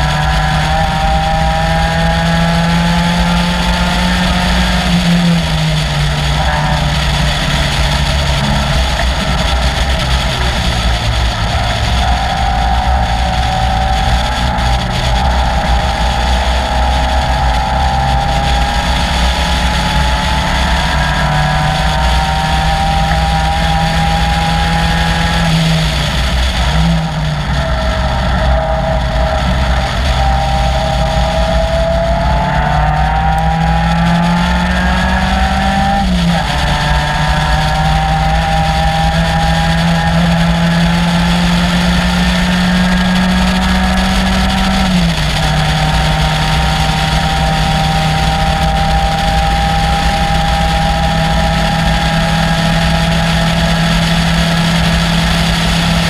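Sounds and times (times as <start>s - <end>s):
car engine revving hard: 0.0s - 56.0s
wind rumble: 0.0s - 56.0s.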